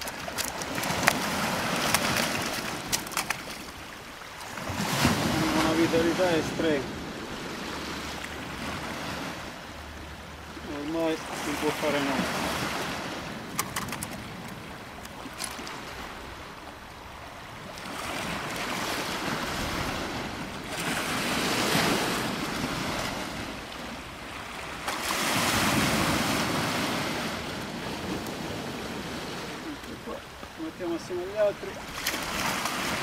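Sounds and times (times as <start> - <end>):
sea waves breaking on beach: 0.0 - 33.0.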